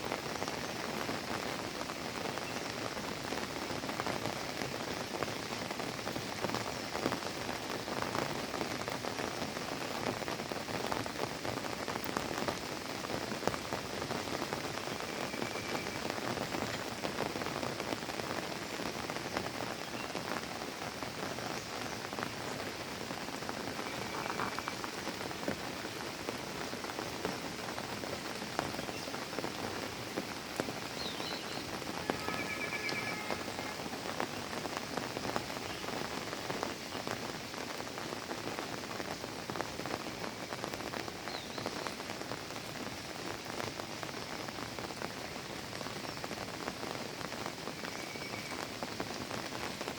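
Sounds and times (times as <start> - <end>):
raindrops hitting a surface: 0.0 - 49.9
steady rain hiss: 0.0 - 49.9.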